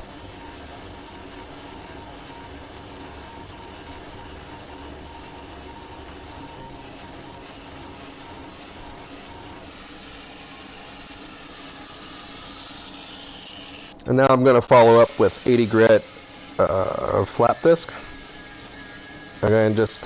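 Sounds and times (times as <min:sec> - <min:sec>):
angle grinder grinding steel: 0:00.0 - 0:14.0, 0:14.8 - 0:20.0.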